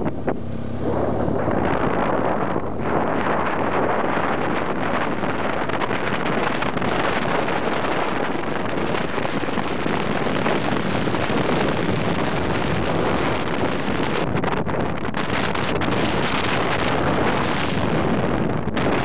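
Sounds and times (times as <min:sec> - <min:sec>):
motorcycle engine hum: 0:00.0 - 0:19.0
wind rushing on microphone: 0:00.0 - 0:19.0.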